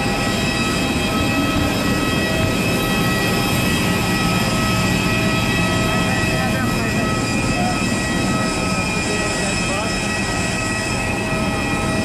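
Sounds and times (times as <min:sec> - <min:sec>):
jet turbine rushing and whining: 0:00.0 - 0:12.0.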